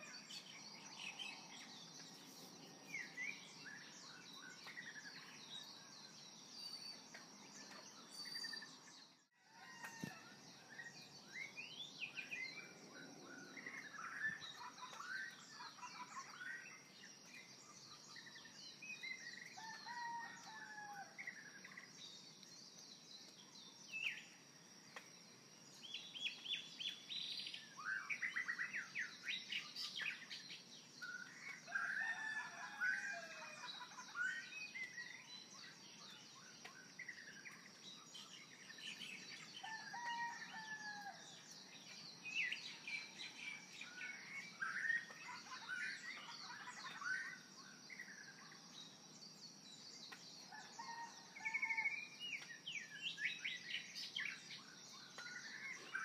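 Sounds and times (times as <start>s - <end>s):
birds chirping and singing: 0.0s - 25.0s, 25.6s - 56.0s.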